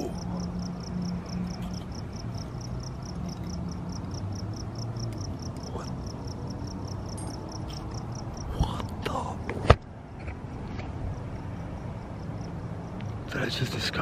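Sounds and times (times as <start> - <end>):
cricket chirping: 0.0 - 9.6, 10.2 - 14.0.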